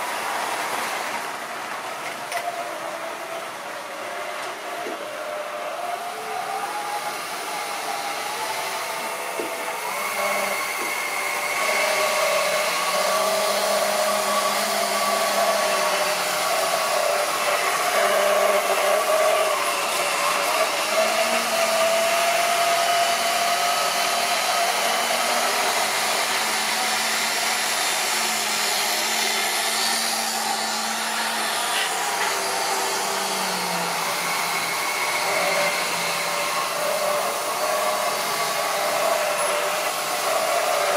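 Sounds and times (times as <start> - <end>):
model train motor whine: 0.0 - 40.9.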